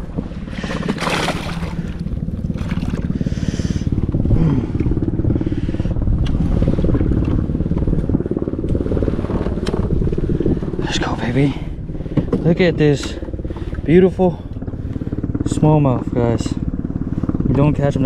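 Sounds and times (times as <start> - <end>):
motor running with pulsing beat: 0.0 - 18.0.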